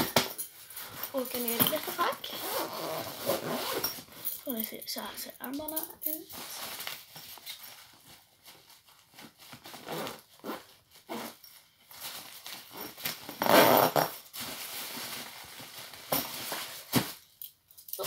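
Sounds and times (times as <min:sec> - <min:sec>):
bag rustling: 0:00.6 - 0:17.2.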